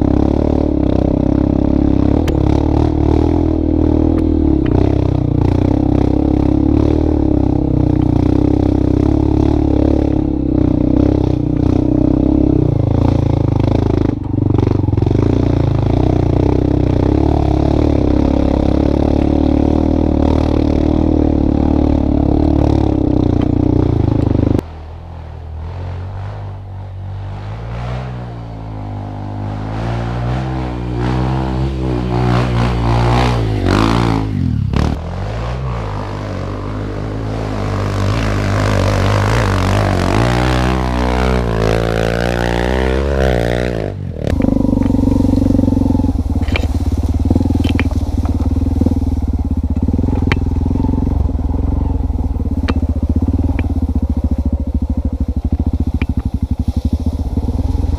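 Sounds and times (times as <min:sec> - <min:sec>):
engine rising and falling in pitch: 0:00.0 - 0:57.9
engine running: 0:00.0 - 0:57.9.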